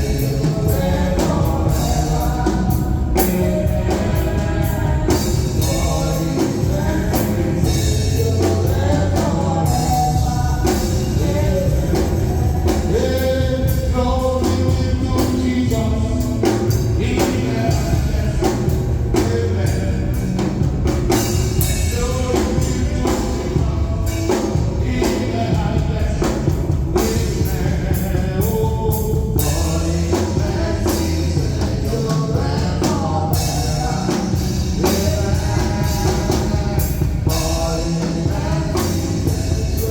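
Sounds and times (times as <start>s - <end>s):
band with drum kit: 0.0s - 39.9s
singing: 0.0s - 39.9s.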